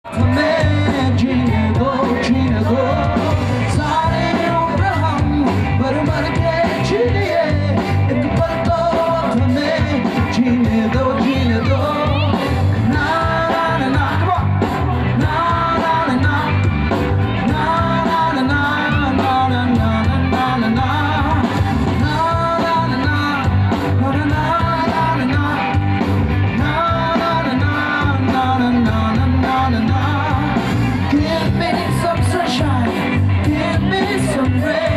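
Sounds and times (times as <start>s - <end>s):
heavy bass: 0.0s - 34.9s
person singing over a beat: 0.1s - 16.8s, 17.4s - 25.9s, 26.6s - 34.9s.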